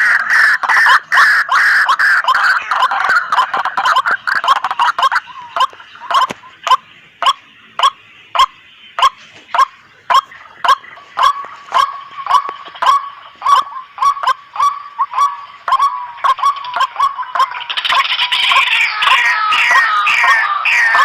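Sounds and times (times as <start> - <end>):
waterhen calling sharp repeated notes: 0.0 - 21.0.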